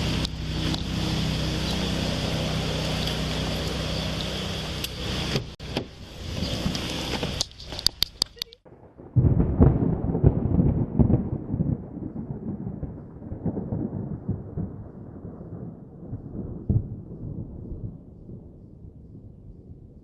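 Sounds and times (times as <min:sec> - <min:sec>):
thunder rumbling: 0:00.0 - 0:20.0.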